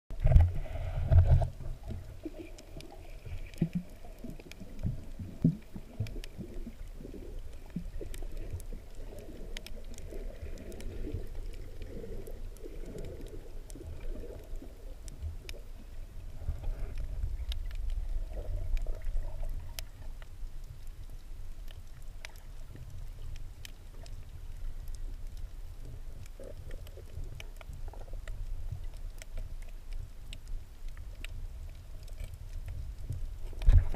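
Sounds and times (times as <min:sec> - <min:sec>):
underwater rumble of moving water: 0:00.1 - 0:33.9
sharp underwater clicks: 0:00.2 - 0:15.7, 0:16.6 - 0:33.9.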